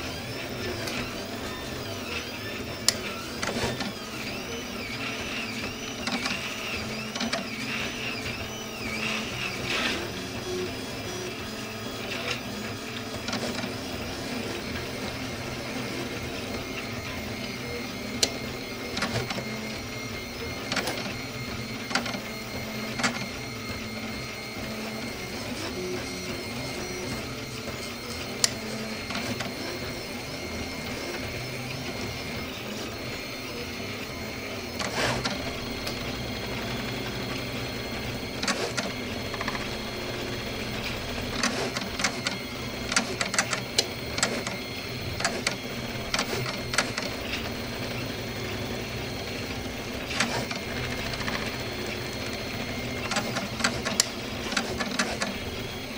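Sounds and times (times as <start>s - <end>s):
stepper motors whining: 0.0s - 55.9s.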